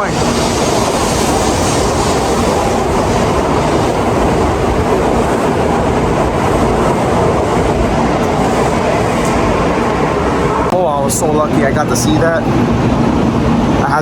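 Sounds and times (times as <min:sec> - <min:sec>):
bullet train rushing past: 0:00.0 - 0:14.0.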